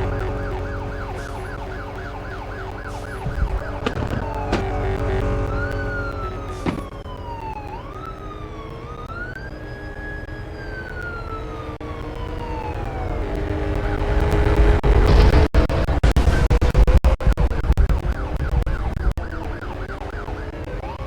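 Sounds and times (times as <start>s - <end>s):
siren wailing: 0.0s - 15.4s, 18.0s - 21.0s.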